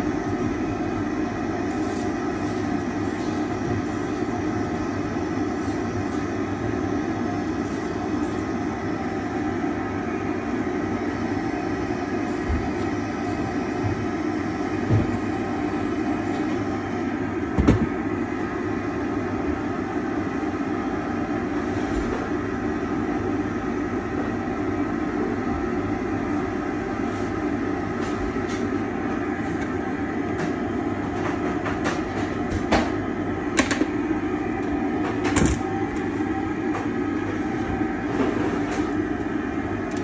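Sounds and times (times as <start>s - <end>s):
dust extractor running: 0.0s - 40.0s.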